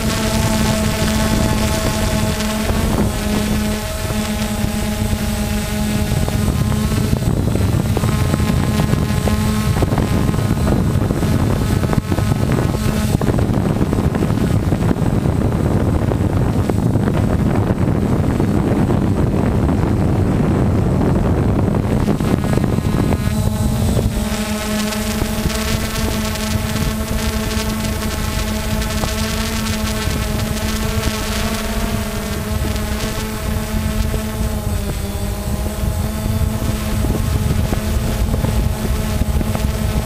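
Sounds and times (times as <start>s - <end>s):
drone propellers humming: 0.0s - 40.0s
wind noise on microphone: 0.0s - 40.0s.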